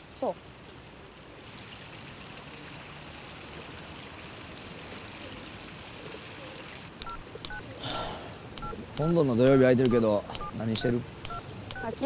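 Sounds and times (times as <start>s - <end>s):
water splashing into fountain pool: 0.1s - 7.7s, 8.4s - 12.0s.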